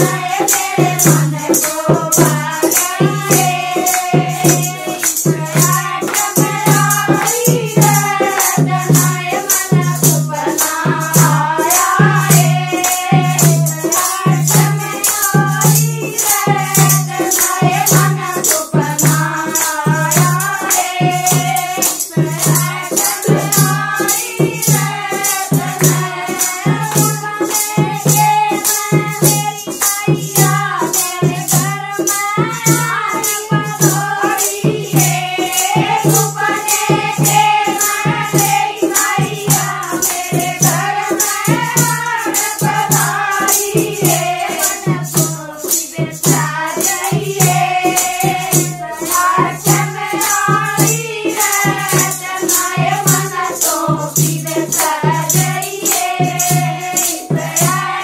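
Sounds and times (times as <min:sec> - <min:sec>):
dholak drum beat: 0:00.0 - 0:58.0
women singing together: 0:00.0 - 0:58.0.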